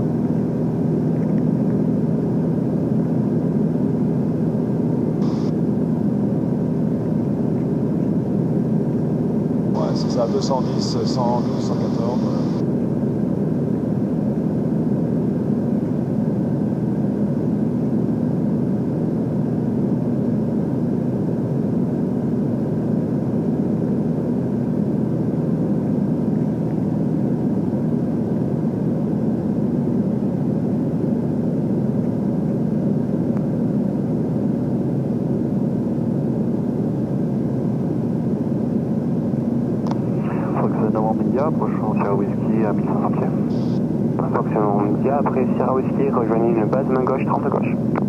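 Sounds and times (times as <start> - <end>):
light aircraft engine drone: 0.0 - 48.0.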